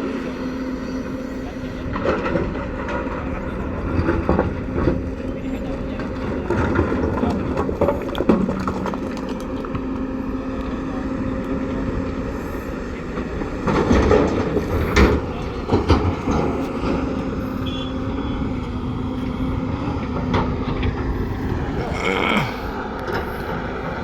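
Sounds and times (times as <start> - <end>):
diesel earthmoving machinery running: 0.0 - 24.0.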